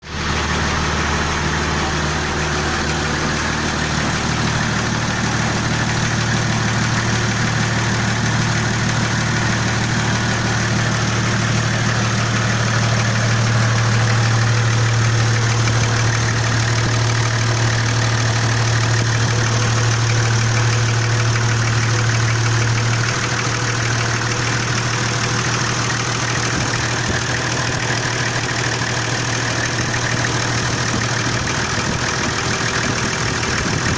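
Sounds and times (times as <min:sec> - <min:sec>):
diesel engine idling: 0:00.0 - 0:33.9
engine knocking: 0:00.0 - 0:33.9.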